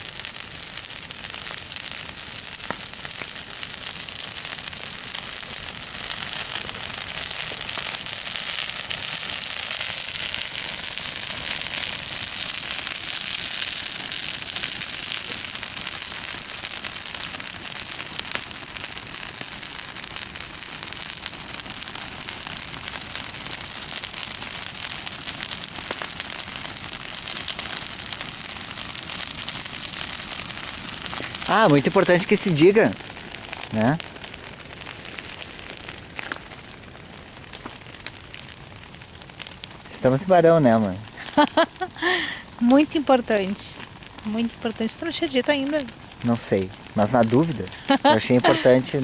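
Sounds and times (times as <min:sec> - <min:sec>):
bonfire crackling: 0:00.0 - 0:49.0.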